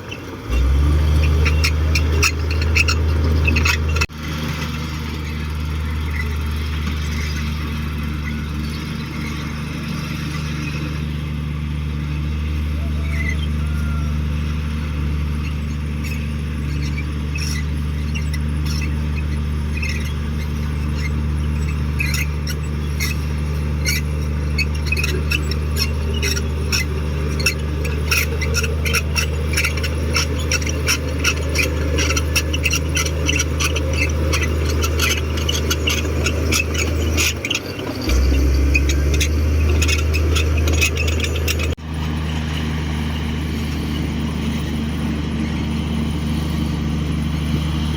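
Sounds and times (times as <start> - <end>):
bulldozer diesel engine running: 0.0 - 47.9
steel tracks squeaking and clanking: 0.0 - 47.9.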